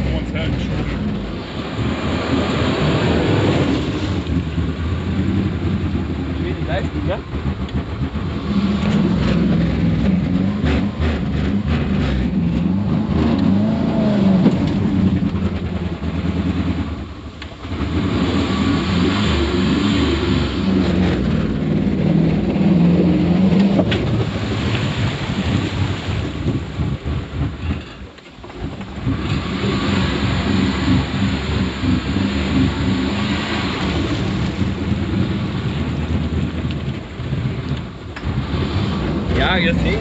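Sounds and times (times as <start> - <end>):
engine running hard: 0.0 - 40.0
water rushing and splashing: 0.0 - 40.0.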